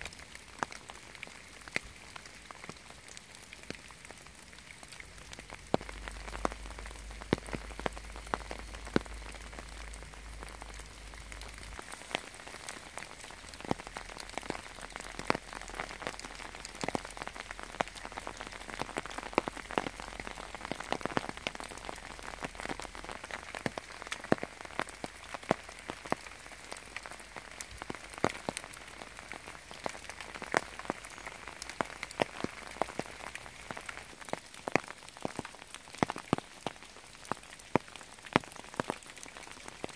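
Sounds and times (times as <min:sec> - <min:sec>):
loud single raindrops: 0:00.0 - 0:39.9
steady rain hiss: 0:00.0 - 0:39.9.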